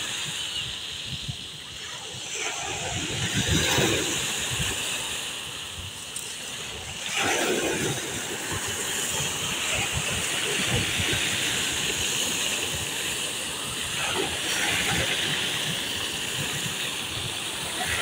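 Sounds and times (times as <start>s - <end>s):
waves breaking on shore: 0.0s - 18.0s.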